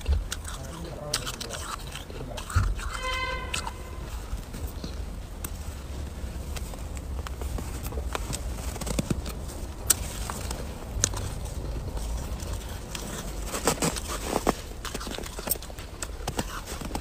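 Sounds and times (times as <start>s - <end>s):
snow crunching being chewed: 0.0s - 3.0s, 4.5s - 17.0s
low steady rumble: 0.0s - 17.0s.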